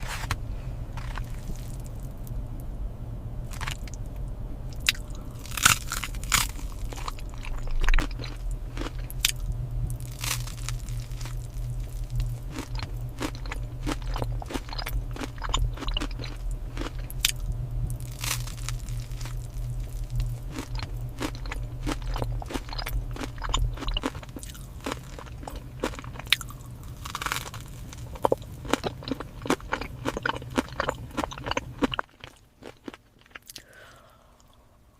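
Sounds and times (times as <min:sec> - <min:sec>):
crunching and chewing crisp food: 0:00.0 - 0:02.4, 0:03.5 - 0:34.6
steady low hum: 0:00.0 - 0:34.9.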